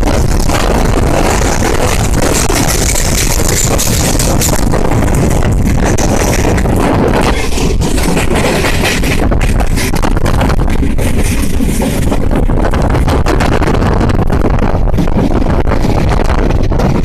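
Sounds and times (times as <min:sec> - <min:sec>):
train rushing and rumbling: 0:00.0 - 0:17.0
wind buffeting microphone: 0:00.0 - 0:17.0.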